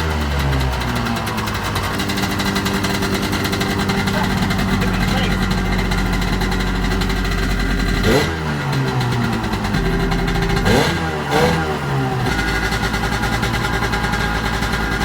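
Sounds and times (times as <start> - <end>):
two-stroke engine revving and idling: 0.0 - 15.0.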